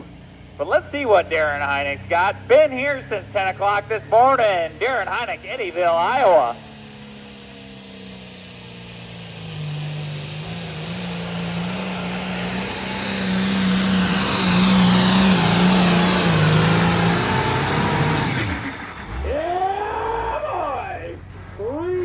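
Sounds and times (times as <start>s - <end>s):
tractor diesel engine at full throttle: 0.0s - 22.0s.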